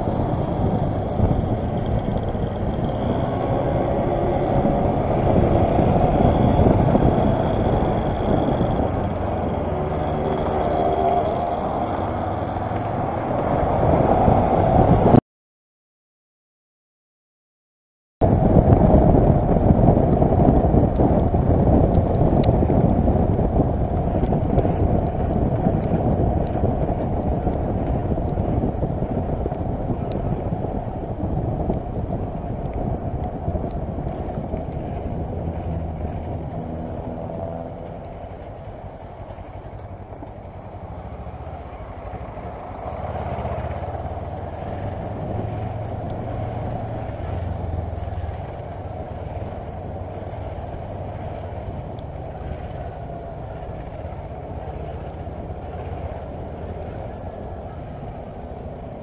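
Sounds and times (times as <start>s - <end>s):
motorcycle engine hum: 0.0s - 15.2s, 18.2s - 59.0s
wind and road noise: 0.0s - 15.2s, 18.2s - 59.0s.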